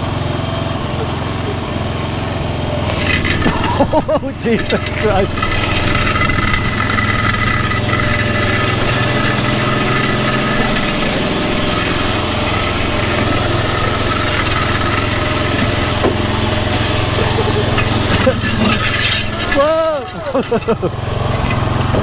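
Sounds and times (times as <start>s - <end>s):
small tractor engine running: 0.0s - 22.0s
metal frame scraping on tarmac: 0.2s - 22.0s.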